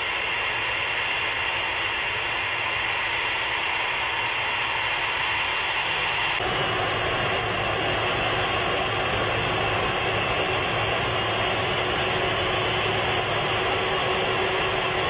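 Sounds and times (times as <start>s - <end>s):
high turbine whine: 0.0s - 15.0s
jet engines rushing: 2.0s - 15.0s.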